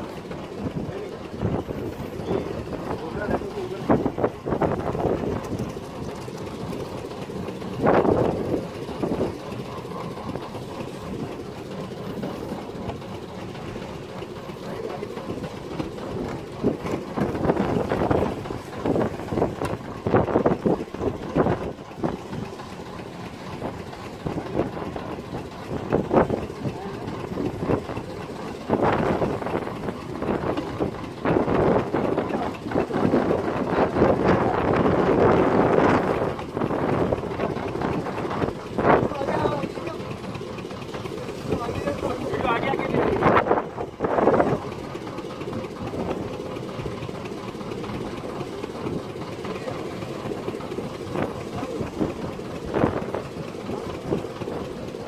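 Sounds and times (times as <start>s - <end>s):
wind rumbling on microphone: 0.0s - 12.8s, 13.6s - 55.0s.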